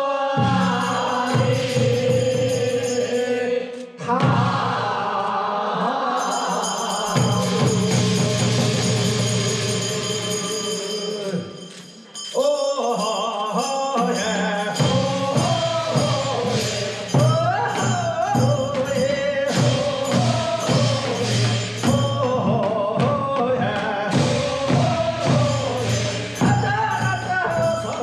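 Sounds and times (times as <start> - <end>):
group singing: 0.0 - 11.6, 12.4 - 28.0
drum strokes: 0.3 - 11.0, 14.0 - 28.0.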